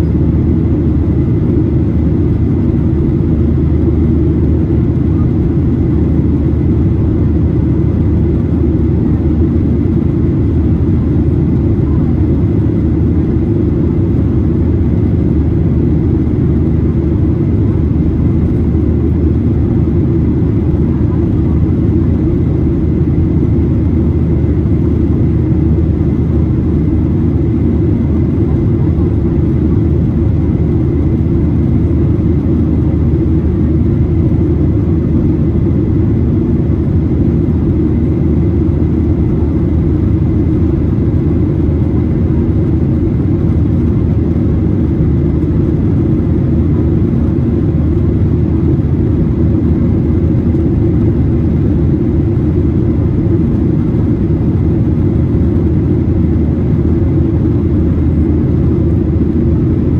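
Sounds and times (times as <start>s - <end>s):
airplane cabin low roar: 0.0s - 59.9s.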